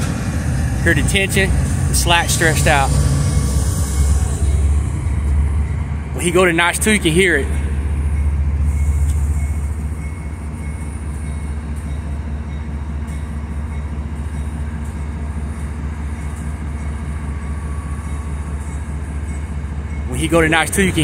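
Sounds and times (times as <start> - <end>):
diesel locomotives rumbling: 0.0 - 21.0.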